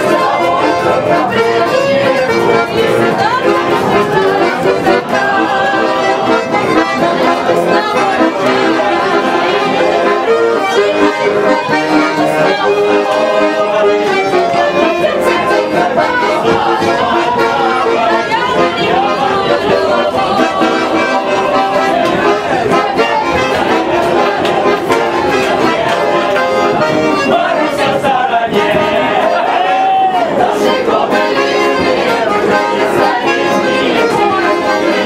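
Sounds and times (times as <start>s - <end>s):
button accordion playing a tune: 0.0s - 35.0s
people talking: 0.0s - 35.0s.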